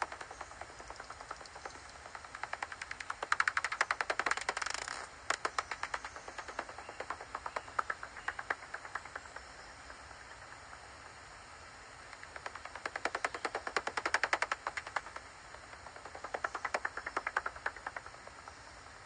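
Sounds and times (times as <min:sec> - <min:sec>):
bat echolocation clicks: 0:00.0 - 0:10.8, 0:12.0 - 0:18.6.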